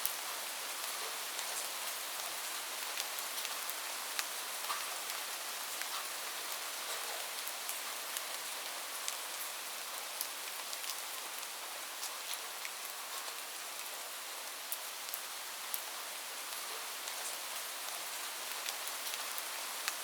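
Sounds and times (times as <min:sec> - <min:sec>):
rain on a hard surface: 0:00.0 - 0:20.0.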